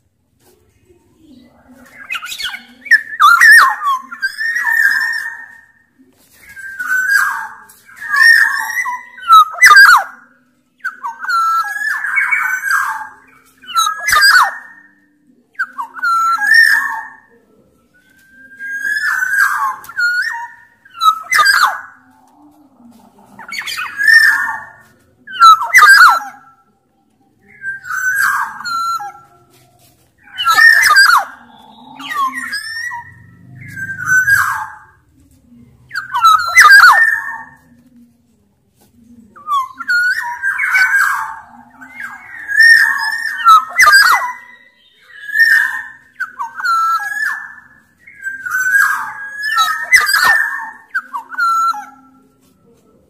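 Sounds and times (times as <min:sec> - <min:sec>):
oriole singing whistled phrases: 0:01.4 - 0:22.3, 0:23.3 - 0:26.7, 0:27.3 - 0:35.2, 0:35.8 - 0:37.8, 0:39.4 - 0:52.6.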